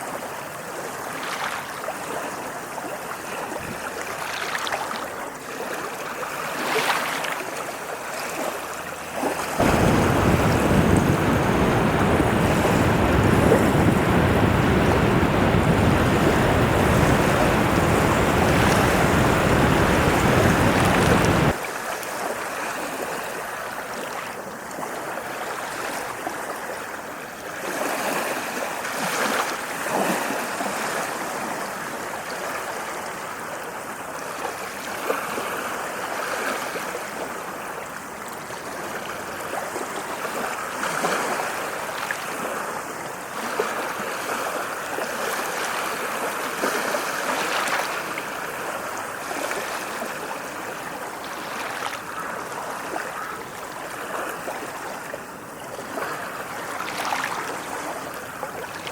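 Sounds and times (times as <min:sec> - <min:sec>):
ocean waves washing onto beach: 0:00.0 - 0:58.9.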